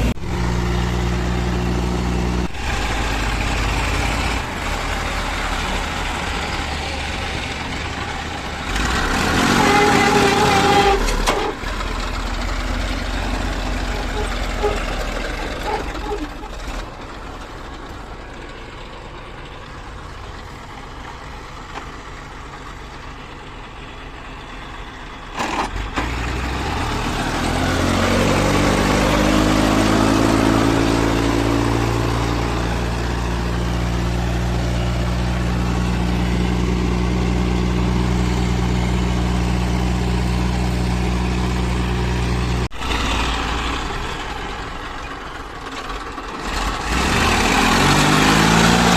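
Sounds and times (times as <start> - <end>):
heavy diesel engine revving: 0.0 - 18.0, 24.8 - 48.9.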